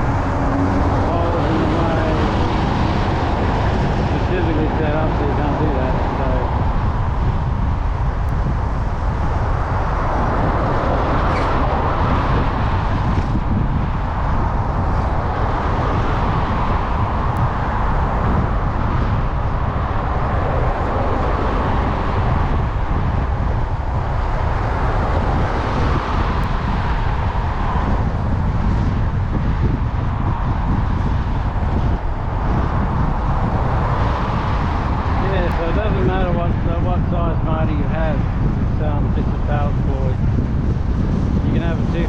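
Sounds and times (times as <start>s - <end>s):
bicycle road noise: 0.0s - 42.0s
wind rushing on microphone: 0.0s - 42.0s.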